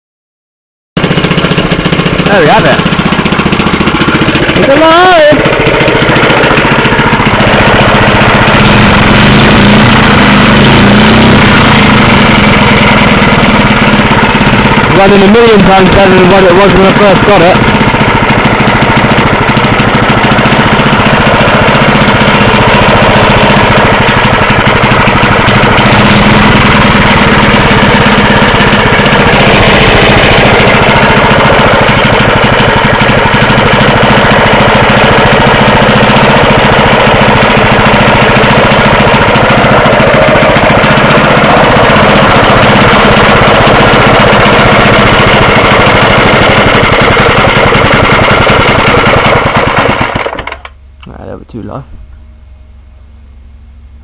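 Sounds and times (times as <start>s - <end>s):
two-stroke engine running loud: 1.0s - 51.2s.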